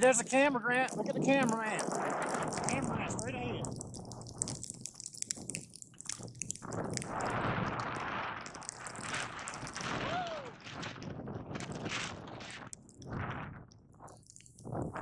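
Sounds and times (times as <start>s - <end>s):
crackling clicks: 0.0s - 15.0s.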